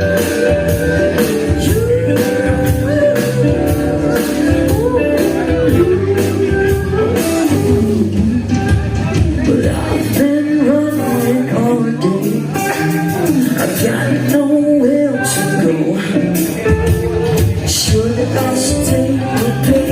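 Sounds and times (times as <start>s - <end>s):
live rock band playing: 0.0s - 19.9s
man singing lead vocal: 0.0s - 19.9s.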